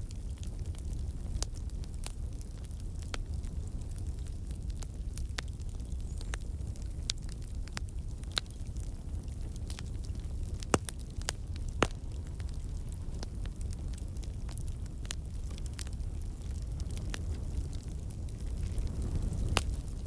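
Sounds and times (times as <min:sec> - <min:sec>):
campfire rumbling: 0:00.0 - 0:20.0
logs crackling and popping: 0:00.0 - 0:20.0.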